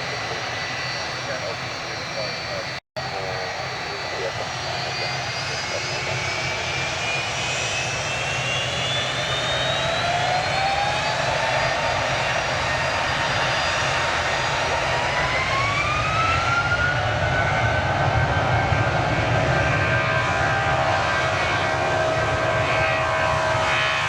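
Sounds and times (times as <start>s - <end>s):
jet engines rumbling: 0.0s - 24.0s
rising engine whine: 0.0s - 24.0s.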